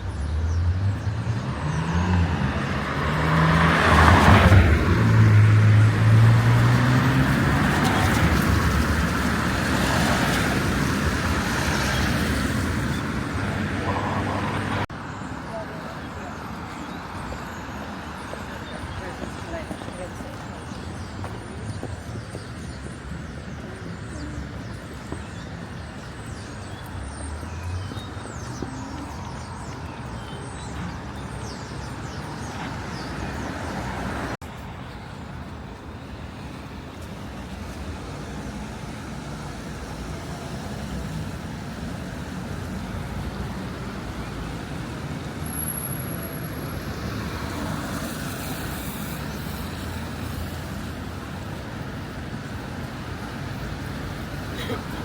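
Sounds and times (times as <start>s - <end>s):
passing road traffic: 0.0s - 55.0s.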